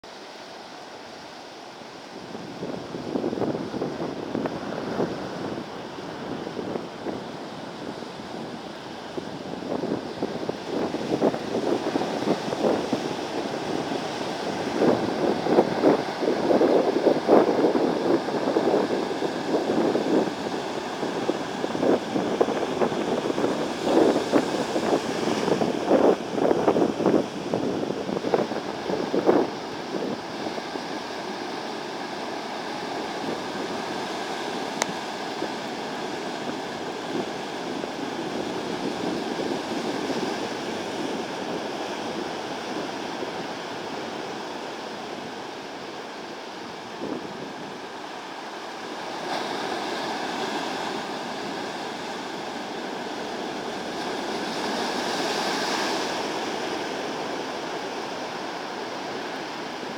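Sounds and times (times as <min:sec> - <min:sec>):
surf breaking on beach: 0:00.1 - 0:59.9.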